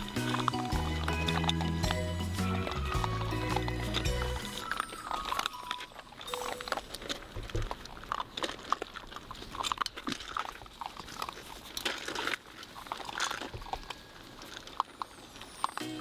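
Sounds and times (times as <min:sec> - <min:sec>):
puppies crunching and chewing: 0:00.0 - 0:16.0.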